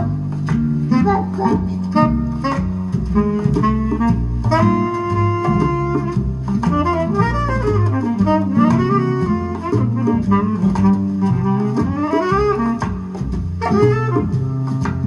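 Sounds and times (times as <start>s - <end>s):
instrumental music over loudspeakers: 0.0s - 15.0s.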